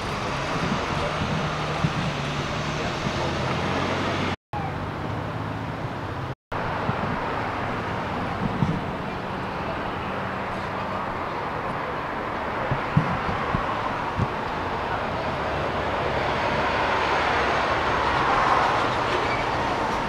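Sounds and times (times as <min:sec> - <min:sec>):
city street traffic hum: 0:00.0 - 0:20.0.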